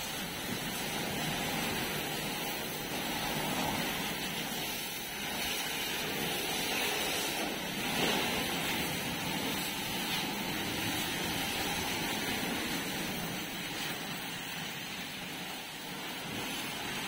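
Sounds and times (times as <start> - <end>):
pressure washer spraying metal: 0.0 - 17.0.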